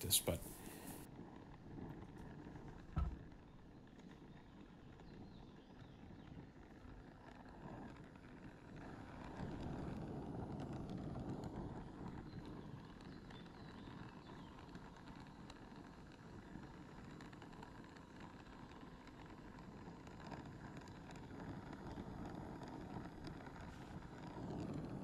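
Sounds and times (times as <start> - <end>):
torch flame rushing: 0.0 - 25.0.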